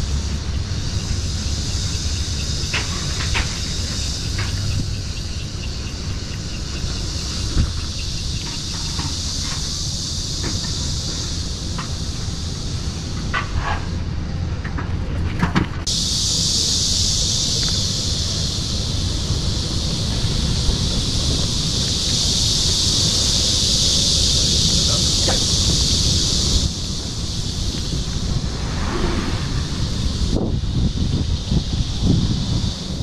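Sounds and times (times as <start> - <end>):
cicadas buzzing: 0.0 - 14.6, 15.9 - 33.0
low rumble: 0.0 - 33.0.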